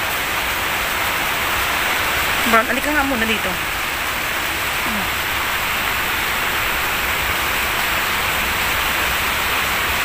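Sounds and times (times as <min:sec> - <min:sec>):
steady background hiss: 0:00.4 - 0:10.0.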